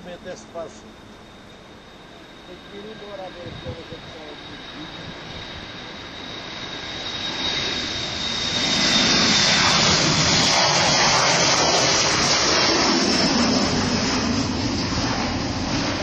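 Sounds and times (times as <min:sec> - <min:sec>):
jet airliner taking off: 0:00.0 - 0:16.0.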